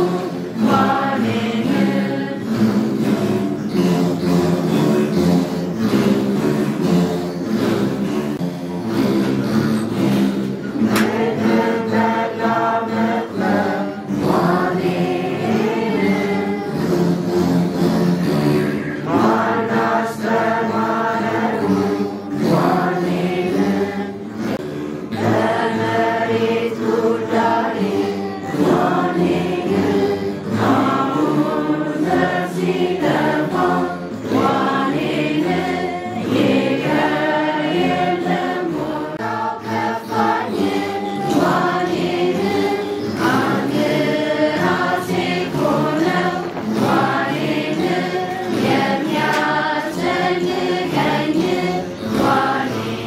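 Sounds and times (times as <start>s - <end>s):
group singing chant-like hymn: 0.0s - 53.0s
lyres playing: 0.0s - 53.0s.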